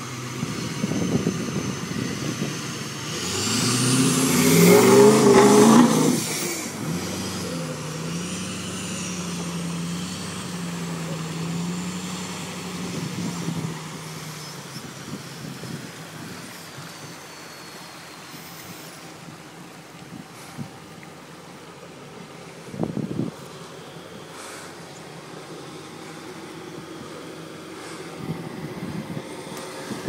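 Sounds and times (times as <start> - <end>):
truck engine revving: 0.0 - 19.3, 23.7 - 30.0.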